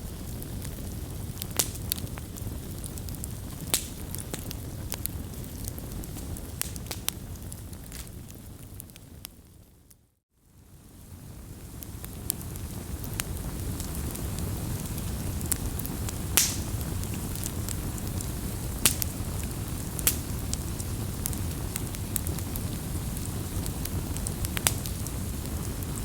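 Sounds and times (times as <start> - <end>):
campfire crackling and popping: 0.0 - 10.0, 10.6 - 26.0
low fire rumble: 0.0 - 26.0.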